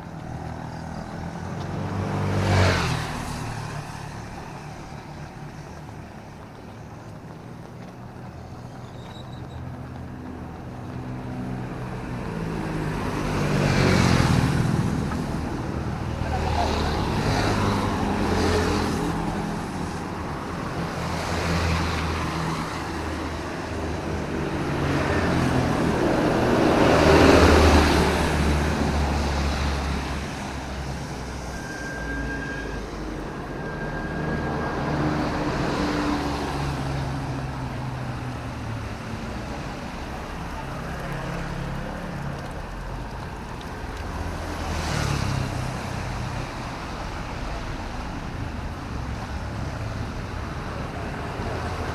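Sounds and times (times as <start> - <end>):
vehicles passing on wet road: 0.0 - 51.9.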